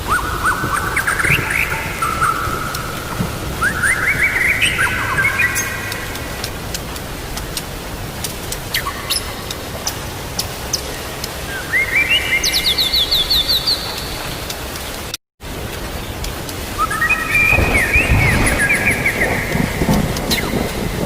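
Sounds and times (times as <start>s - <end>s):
songbird chirps: 0.0s - 7.6s, 8.2s - 15.2s, 15.8s - 21.0s
rain hissing: 0.0s - 21.0s.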